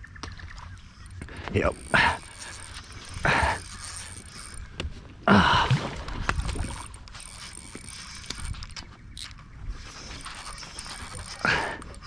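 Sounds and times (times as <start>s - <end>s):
fishing reel gears clattering: 1.0s - 5.0s, 6.1s - 12.0s.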